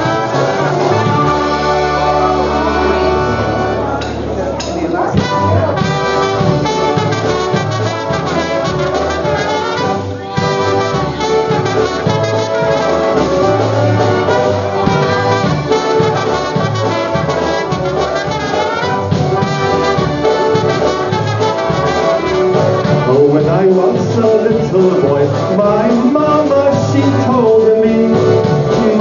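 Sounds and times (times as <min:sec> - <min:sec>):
polka band playing: 0:00.0 - 0:29.0.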